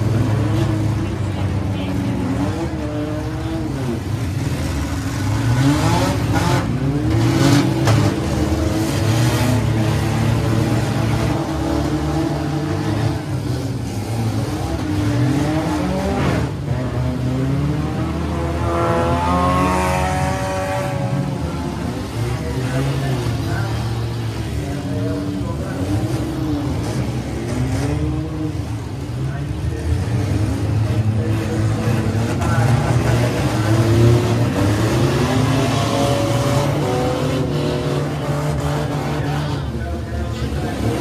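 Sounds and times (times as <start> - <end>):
car engines revving hard: 0.0 - 41.0.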